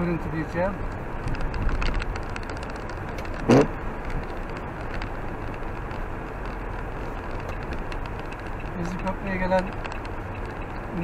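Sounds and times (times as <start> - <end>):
tyre noise on slushy road: 0.0 - 11.0
small ticks: 0.9 - 11.0.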